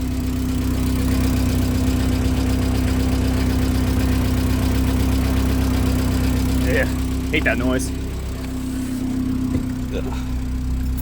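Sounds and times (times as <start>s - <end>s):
car engine idling with drone: 0.0s - 11.0s.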